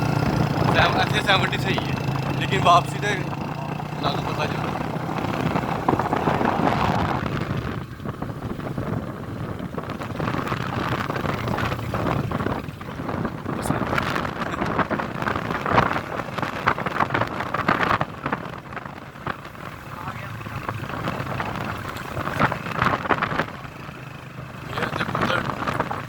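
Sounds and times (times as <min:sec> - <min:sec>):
vehicle rumbling along a road: 0:00.0 - 0:26.0
wind buffeting microphone: 0:00.0 - 0:26.0.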